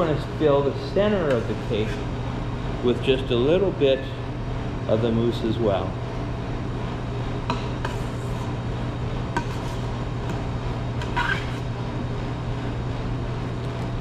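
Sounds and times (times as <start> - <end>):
kitchen equipment humming: 0.0 - 14.0.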